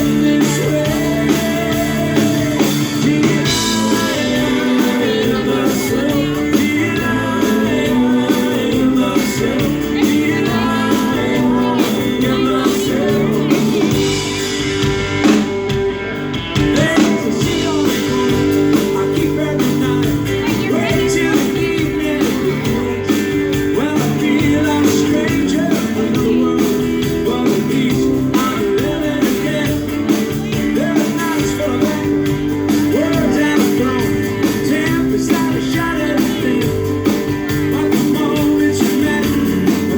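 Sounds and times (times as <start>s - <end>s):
live rock band with singer: 0.0s - 39.9s.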